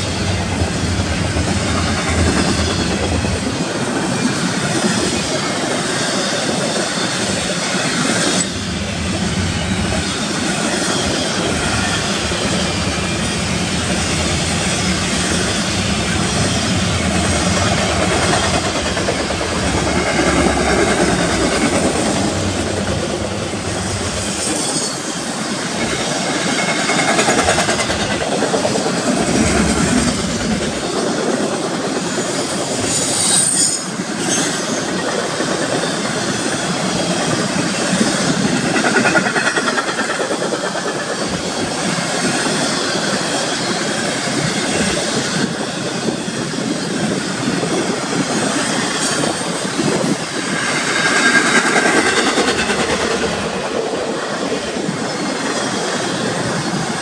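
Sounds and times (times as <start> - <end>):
high wheel squeal: 4.1 - 57.0.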